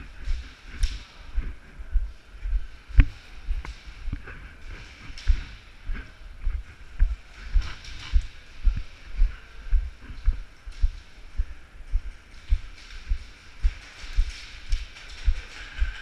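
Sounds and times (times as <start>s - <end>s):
footsteps on concrete: 0.0s - 16.0s.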